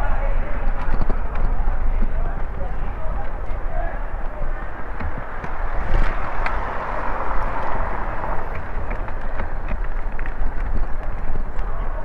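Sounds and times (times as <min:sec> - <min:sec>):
wind and tyre rumble: 0:00.0 - 0:12.0.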